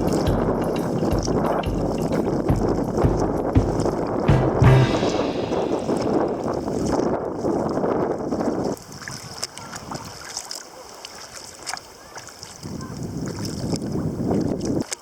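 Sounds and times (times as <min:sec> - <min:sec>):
wind buffeting microphone: 0:00.0 - 0:10.3, 0:12.4 - 0:14.9
water splashes and drips: 0:00.0 - 0:15.0.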